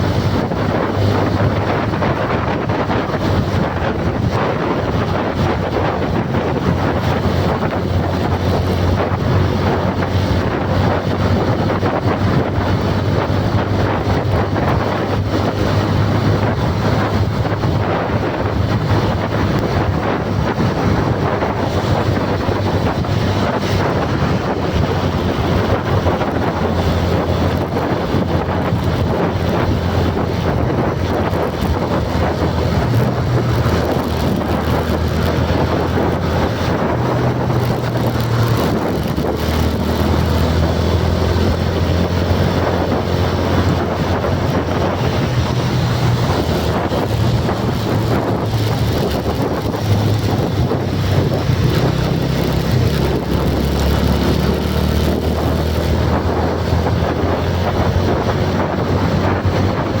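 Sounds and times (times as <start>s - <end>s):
low rumbling noise: 0.0s - 60.0s
wind buffeting microphone: 0.0s - 60.0s.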